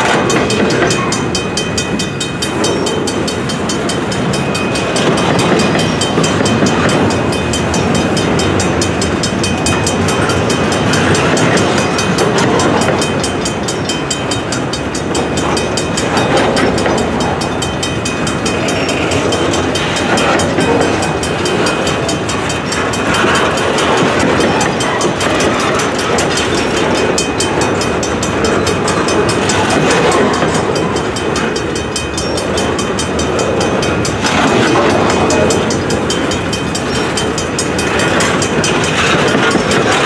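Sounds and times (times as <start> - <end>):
crossing signal bell ringing: 0.0 - 40.0
freight train wheels rumbling: 0.0 - 40.0.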